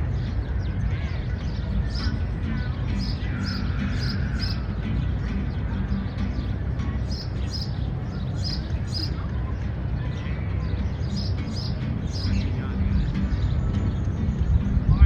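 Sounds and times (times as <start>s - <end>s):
distant city traffic rumble: 0.0s - 15.0s
small birds chirping: 0.0s - 15.0s.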